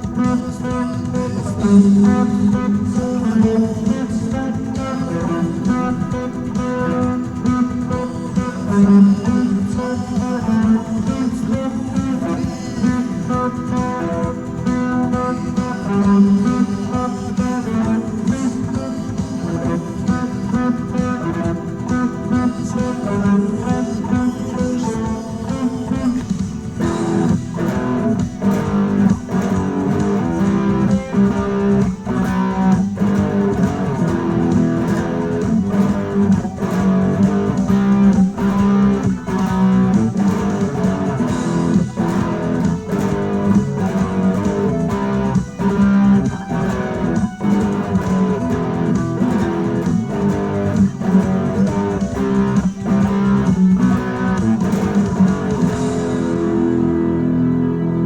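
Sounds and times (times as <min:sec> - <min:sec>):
steady drum beat: 0:00.0 - 0:56.7
bass guitar: 0:00.0 - 0:58.0
electric lead guitar: 0:00.0 - 0:58.0
rock backing track: 0:00.0 - 0:58.0.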